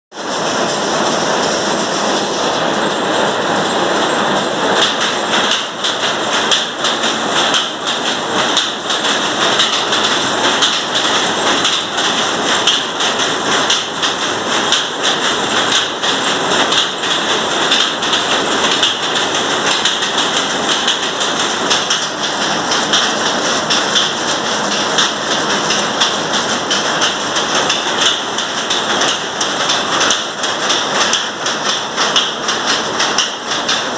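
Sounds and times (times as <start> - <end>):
power loom clattering: 0.2 - 33.9.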